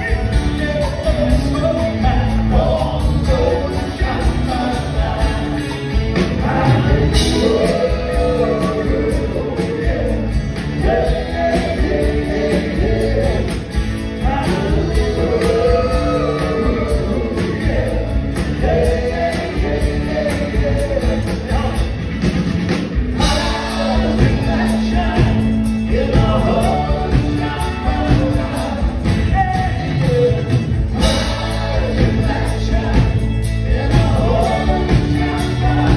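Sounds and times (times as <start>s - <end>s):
men singing together: 0.0s - 22.1s, 23.1s - 35.9s
rock band playing: 0.0s - 35.9s.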